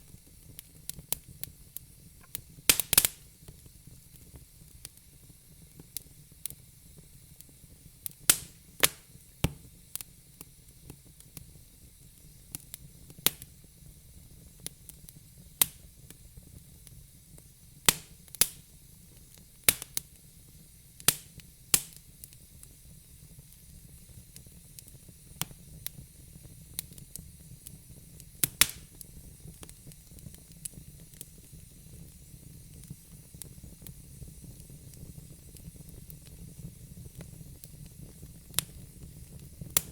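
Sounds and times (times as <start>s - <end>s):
fire soft steady hiss: 0.0s - 39.9s
wood fire crackling and popping: 0.0s - 39.9s.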